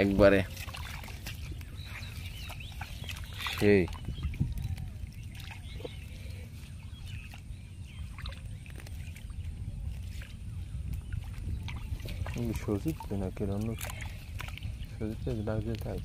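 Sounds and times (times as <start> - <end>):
shallow water sloshing and trickling: 0.0 - 16.0.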